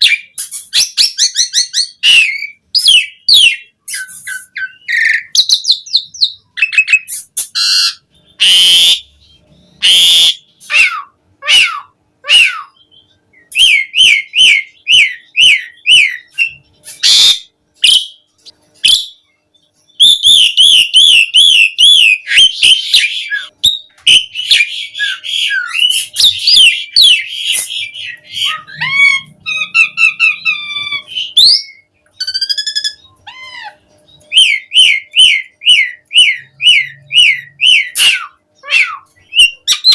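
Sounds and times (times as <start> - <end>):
starling singing: 0.0 - 18.2, 18.8 - 39.9.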